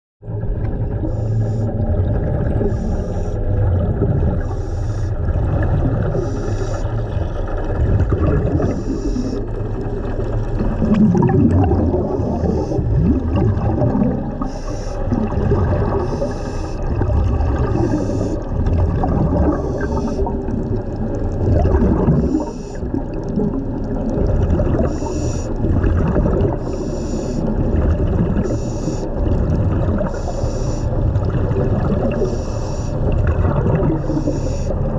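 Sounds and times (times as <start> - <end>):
underwater bubbling and gurgling: 0.2 - 34.9.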